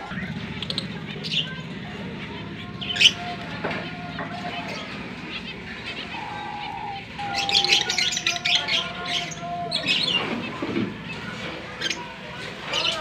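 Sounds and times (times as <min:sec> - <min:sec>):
cockatiels chirping: 0:02.3 - 0:13.0.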